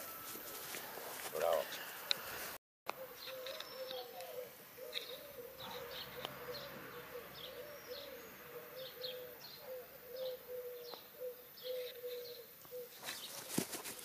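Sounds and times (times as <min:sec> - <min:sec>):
birds calling low wavering notes: 0:00.0 - 0:13.4.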